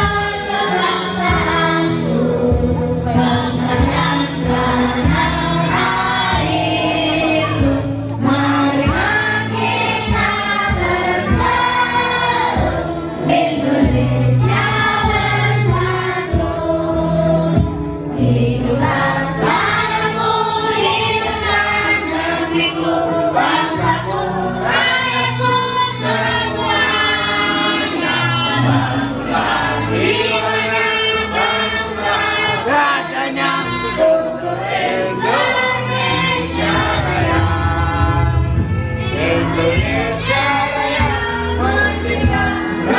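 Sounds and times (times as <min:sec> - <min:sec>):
group singing in chorus: 0:00.0 - 0:42.9
musical accompaniment with low notes: 0:00.0 - 0:42.9.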